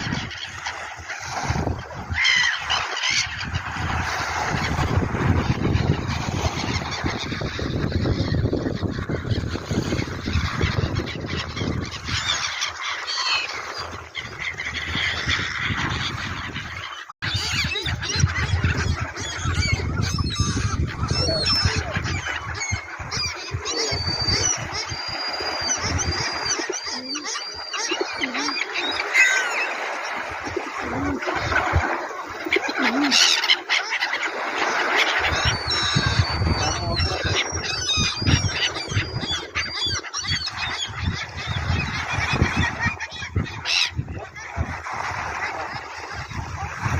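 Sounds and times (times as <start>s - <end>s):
gulls calling: 0.0s - 46.9s.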